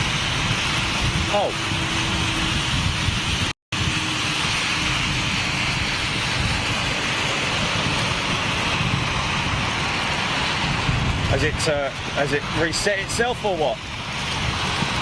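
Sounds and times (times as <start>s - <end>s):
heavy rain: 0.0s - 15.0s
wind buffeting microphone: 0.0s - 15.0s.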